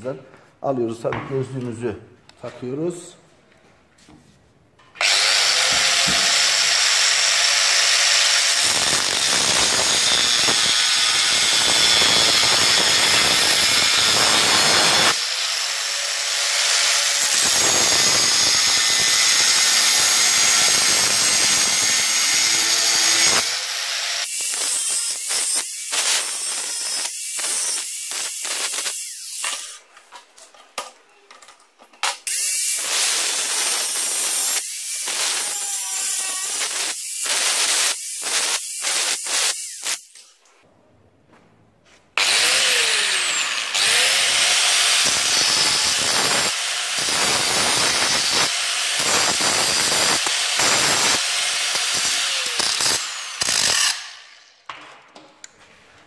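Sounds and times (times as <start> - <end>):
angle grinder cutting metal: 5.0 - 29.9, 32.3 - 40.4, 42.2 - 54.7.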